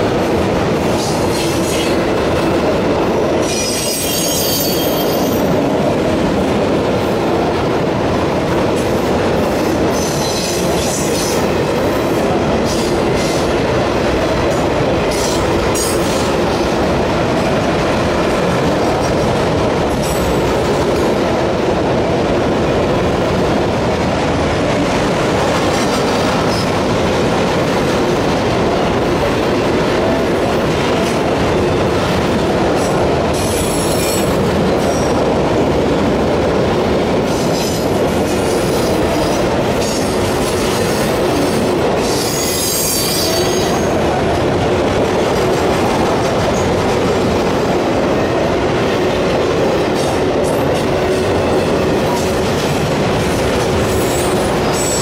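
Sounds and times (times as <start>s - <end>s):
freight train rumbling past: 0.0s - 55.0s
wheels clattering on rails: 0.0s - 55.0s.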